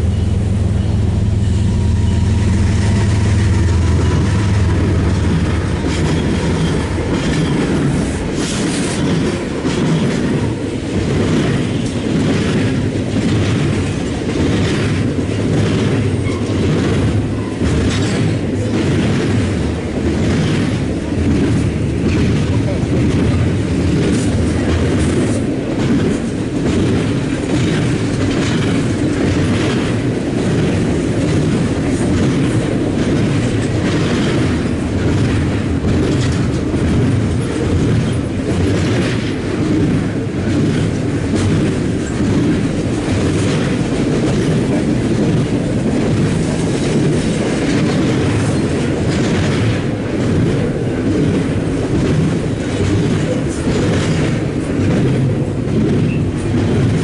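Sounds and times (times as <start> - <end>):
freight train rumbling past: 0.0 - 57.0
wheels clacking over rail joints: 0.0 - 57.0.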